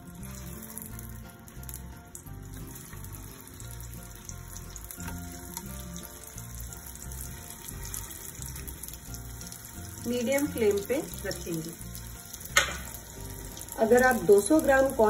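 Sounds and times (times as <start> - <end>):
background music with bass: 0.0 - 15.0
food sizzling in oil: 0.0 - 15.0.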